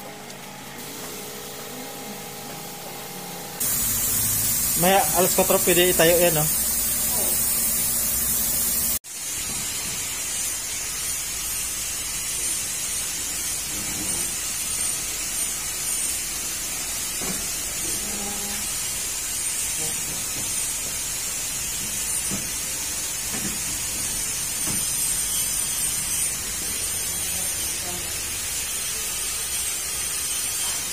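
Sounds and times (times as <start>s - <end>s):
high-pitched hiss: 3.6s - 30.9s.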